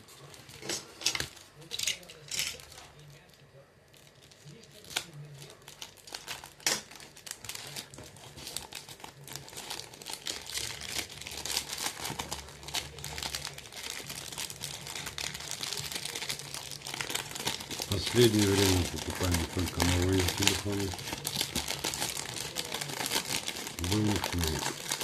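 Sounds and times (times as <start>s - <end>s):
packaging crinkling: 0.0s - 25.0s.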